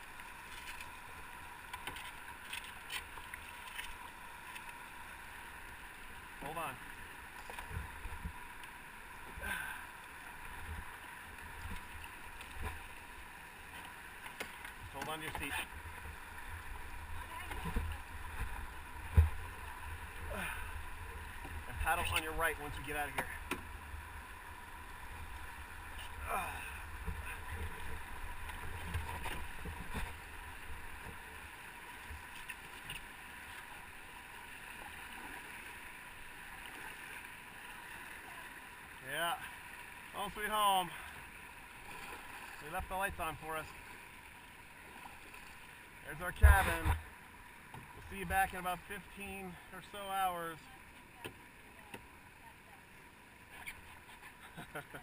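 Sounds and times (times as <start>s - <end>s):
water rushing over rapids: 0.0s - 54.2s.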